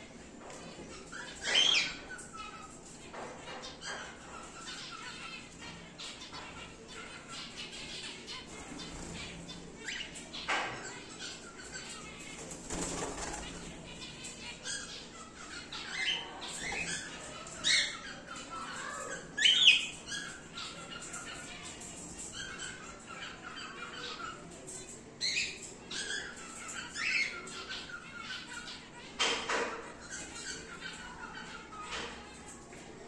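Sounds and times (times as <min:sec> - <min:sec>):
cockatiels calling: 0:00.4 - 0:33.0.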